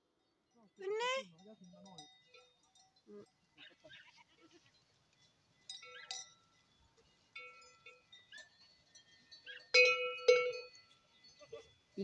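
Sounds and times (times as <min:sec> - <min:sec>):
goat bells clanking: 0:00.1 - 0:12.0.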